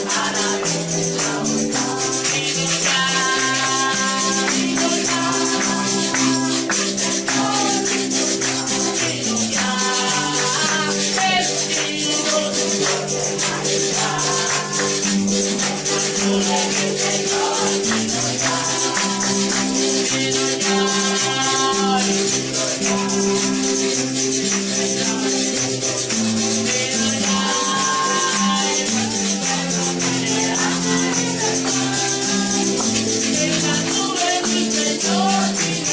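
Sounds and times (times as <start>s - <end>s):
tambourine shaking: 0.0s - 35.9s
voices singing worship song: 0.0s - 35.9s.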